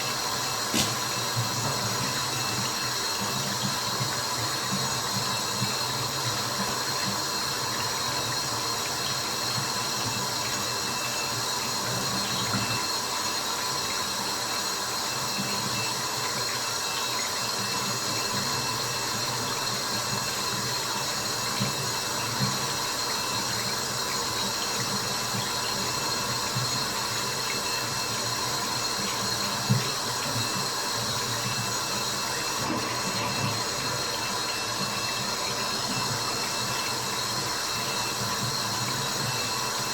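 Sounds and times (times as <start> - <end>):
running and dripping water: 0.0 - 39.9.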